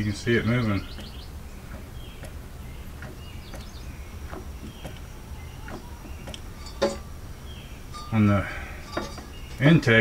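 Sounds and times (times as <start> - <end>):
faint bird chirps: 0.0 - 10.0
low steady hum: 0.0 - 10.0.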